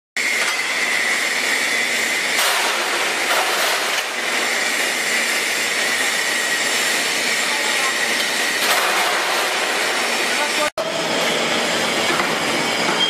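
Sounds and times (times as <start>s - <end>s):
hydraulic power unit whining: 0.2s - 13.0s.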